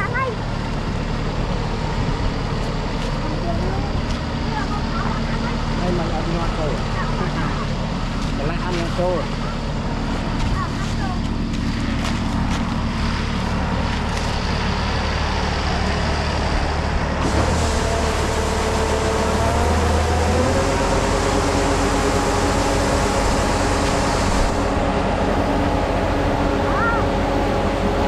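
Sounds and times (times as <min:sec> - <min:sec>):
harvesting machine engine running: 0:00.0 - 0:28.0.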